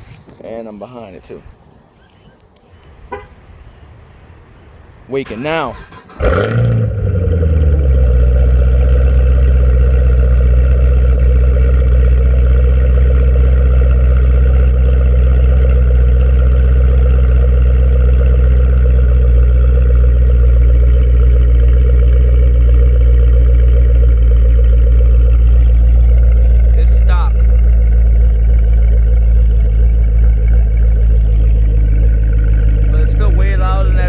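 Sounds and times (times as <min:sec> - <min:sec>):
car engine cold start fast idle: 0:04.0 - 0:34.0.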